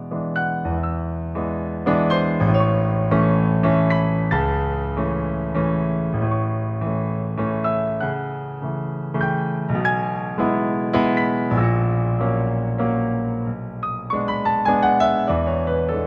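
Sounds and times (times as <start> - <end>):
solo piano playing: 0.0 - 16.0.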